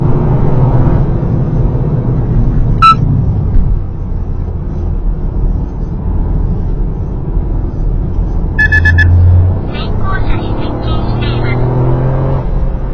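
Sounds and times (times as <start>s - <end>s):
engine and road rumble: 0.0s - 12.9s.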